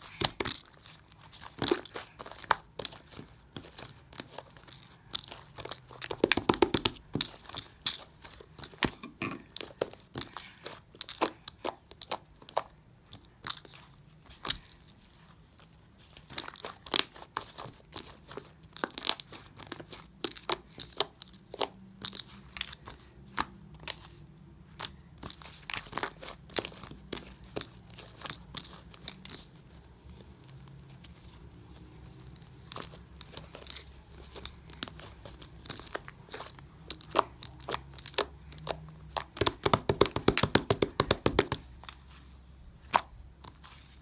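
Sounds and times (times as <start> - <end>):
slime crackling and popping: 0.0 - 13.8, 16.1 - 24.1, 24.8 - 42.0.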